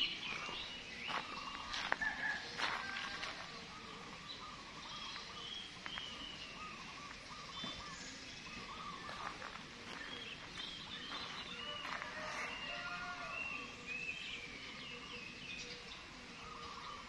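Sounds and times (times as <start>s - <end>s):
birds chirping and warbling: 0.0s - 17.0s
outdoor background noise: 0.0s - 17.0s.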